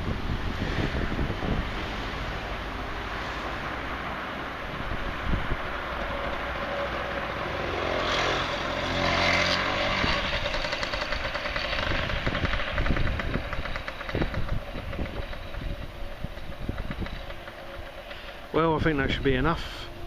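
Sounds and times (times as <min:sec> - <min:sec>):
wind buffeting microphone: 0:00.0 - 0:07.5, 0:09.6 - 0:20.0
vehicle passing: 0:00.0 - 0:20.0.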